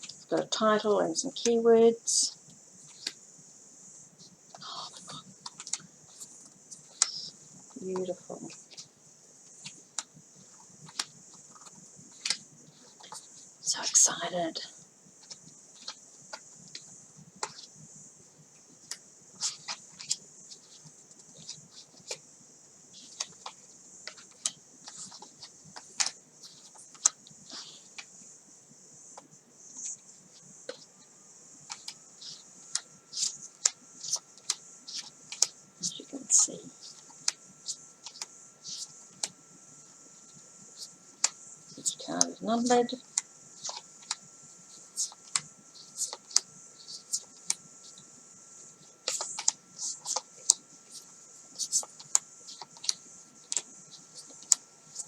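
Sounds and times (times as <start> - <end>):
cards sliding with soft hiss: 0.0 - 55.0.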